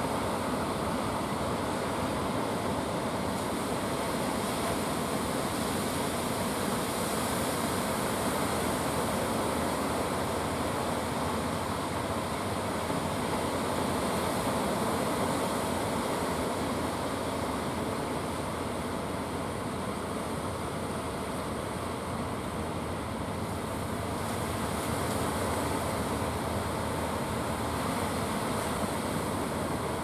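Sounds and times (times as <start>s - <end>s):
sea surf breaking: 0.0s - 30.0s.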